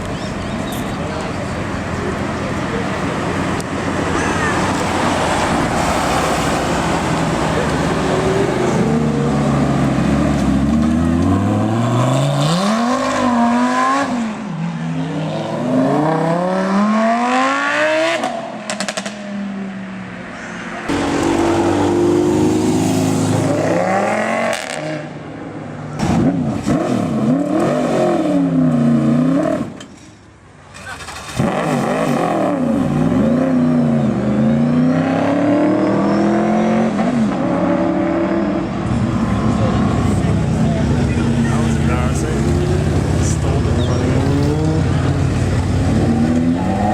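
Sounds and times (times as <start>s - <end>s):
car engines revving: 0.0s - 46.9s.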